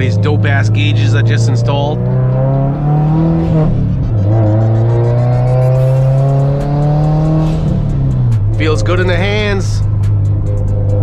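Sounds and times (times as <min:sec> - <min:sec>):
car engine accelerating through gears: 0:00.0 - 0:11.0.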